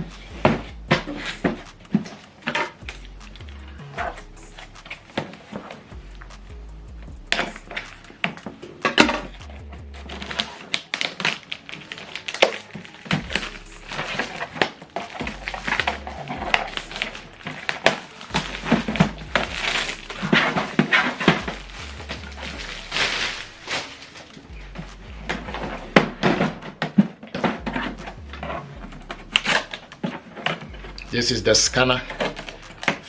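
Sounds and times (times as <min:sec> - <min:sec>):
background music with bass line: 0:00.0 - 0:10.7, 0:13.0 - 0:33.0.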